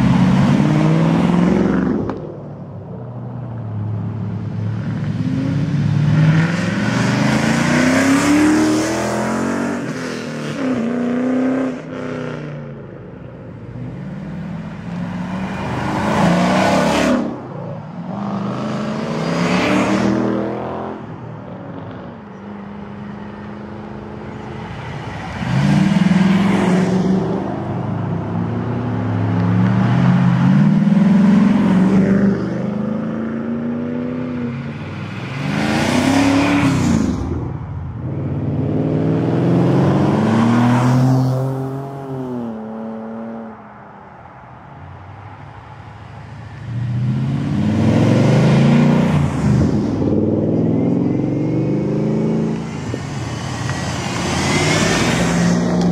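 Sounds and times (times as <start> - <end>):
cars driving past revving: 0.0 - 55.9.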